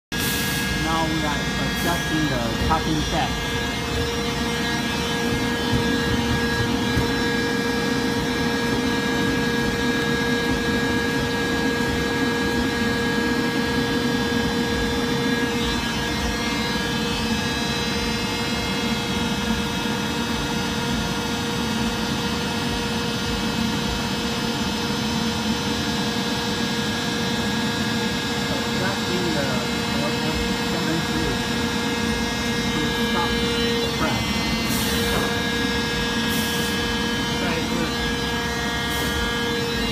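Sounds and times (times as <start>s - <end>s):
hydraulic pump motor humming: 0.1s - 39.9s.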